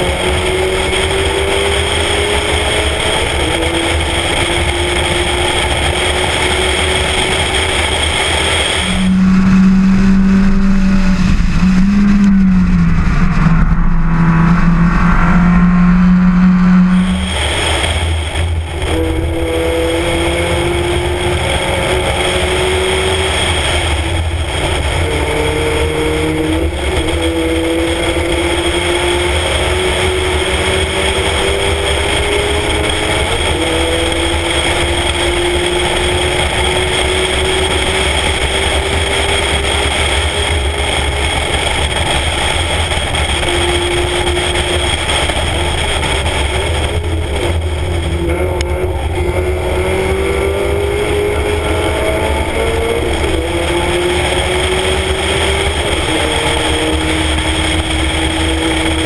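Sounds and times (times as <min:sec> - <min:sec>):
car engine revving hard: 0:00.0 - 0:59.0
wind rumble on microphone: 0:00.0 - 0:59.0.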